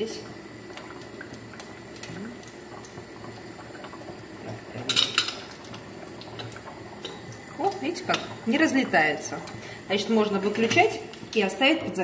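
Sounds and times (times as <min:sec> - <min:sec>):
faint oil sizzle: 0:00.0 - 0:12.0.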